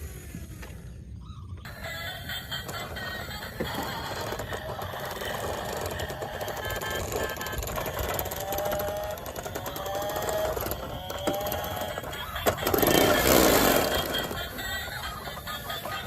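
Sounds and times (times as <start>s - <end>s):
toy car motors whirring: 0.0s - 1.0s, 1.6s - 16.0s
gliding tones: 1.7s - 16.0s.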